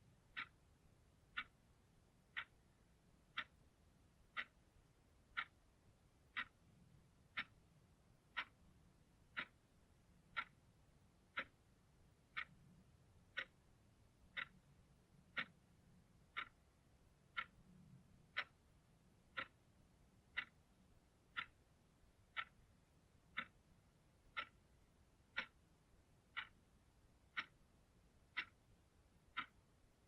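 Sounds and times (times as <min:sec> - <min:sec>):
clock ticking: 0:00.0 - 0:30.0.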